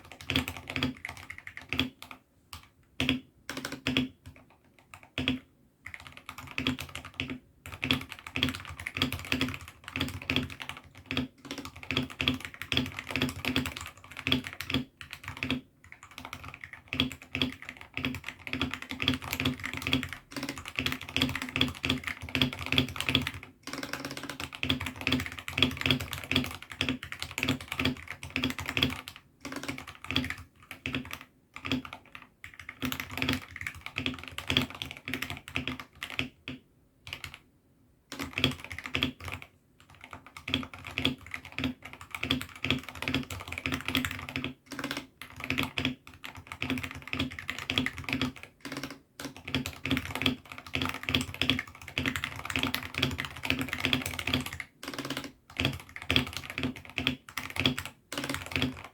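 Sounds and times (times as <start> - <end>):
mechanical keyboard typing: 0.0 - 37.4, 38.1 - 58.9.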